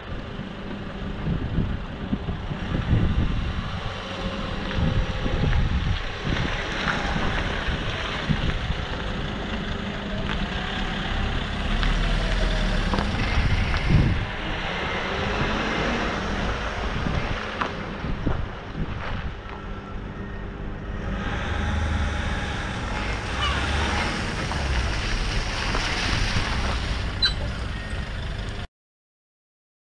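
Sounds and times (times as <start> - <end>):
diesel truck driving by: 0.0 - 28.7.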